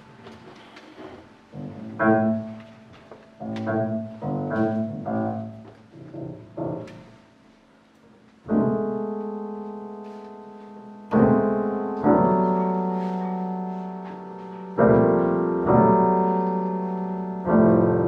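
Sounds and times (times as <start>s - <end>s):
slow jazz piano chords: 0.0s - 18.0s.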